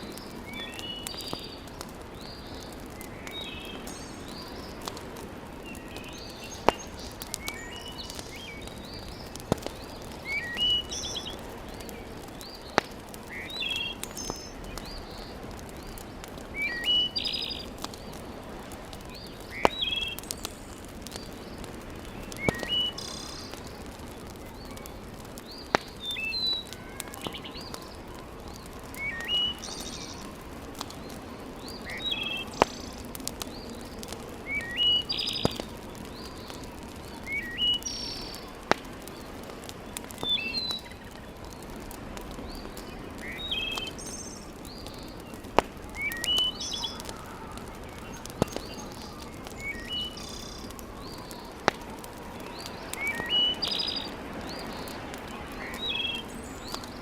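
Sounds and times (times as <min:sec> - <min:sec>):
birds chirping: 0:00.0 - 0:57.0
wood fire popping: 0:00.0 - 0:57.0.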